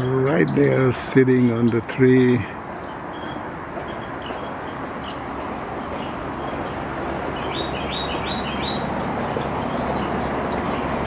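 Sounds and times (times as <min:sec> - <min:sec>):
highway traffic rushing: 0:00.0 - 0:11.0
small songbirds chirping: 0:00.0 - 0:11.0.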